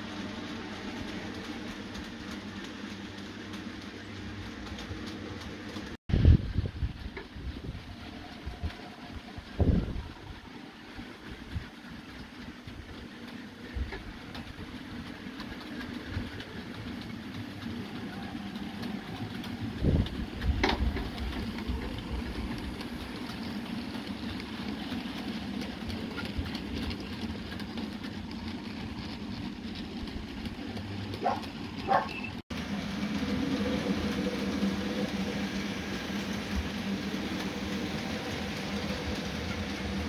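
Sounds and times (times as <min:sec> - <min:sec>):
model train running: 0:00.0 - 0:40.0.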